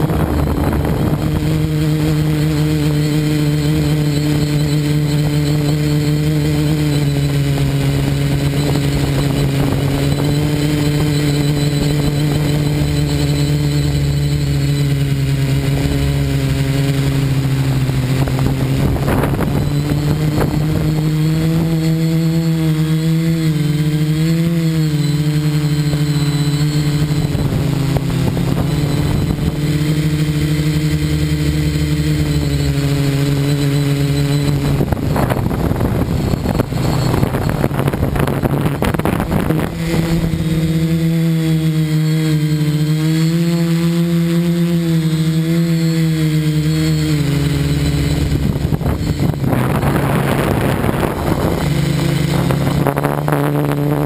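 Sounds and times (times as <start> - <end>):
drone motors buzzing: 0.0 - 54.0
noisy rush: 0.0 - 54.0.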